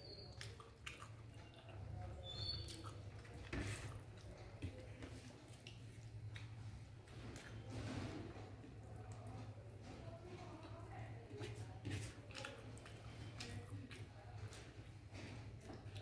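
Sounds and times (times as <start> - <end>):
mouth clicks and chewing: 0.0 - 7.7, 10.6 - 16.0
fingers mixing rice: 0.1 - 16.0.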